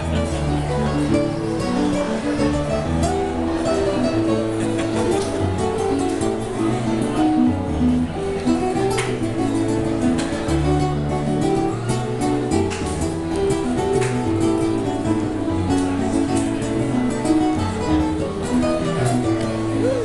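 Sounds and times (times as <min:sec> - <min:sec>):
acoustic guitar strummed and plucked: 0:00.0 - 0:20.0
keyboard accompaniment: 0:00.0 - 0:20.0.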